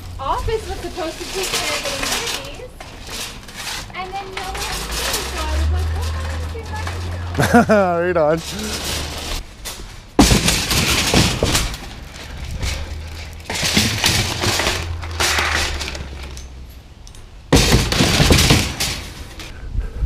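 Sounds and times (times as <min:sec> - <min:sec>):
shopping cart rattling on asphalt: 0:00.0 - 0:16.8, 0:17.5 - 0:19.5.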